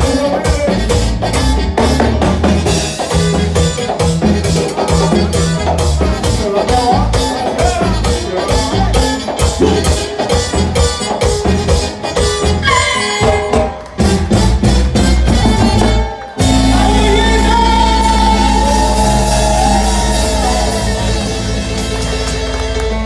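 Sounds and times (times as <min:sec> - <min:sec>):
band playing folk music: 0:00.0 - 0:23.0
percussion beat: 0:00.0 - 0:23.0.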